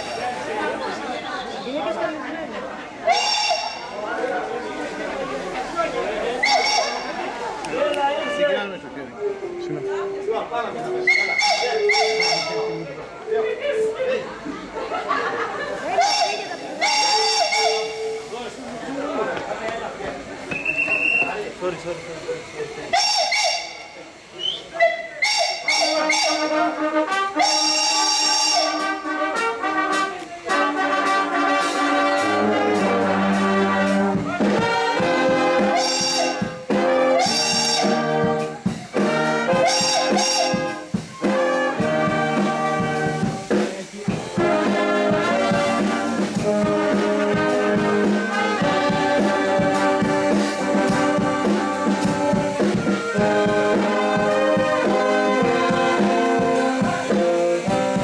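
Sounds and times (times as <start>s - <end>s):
brass band playing: 3.0s - 19.2s, 22.9s - 24.3s, 25.2s - 58.0s.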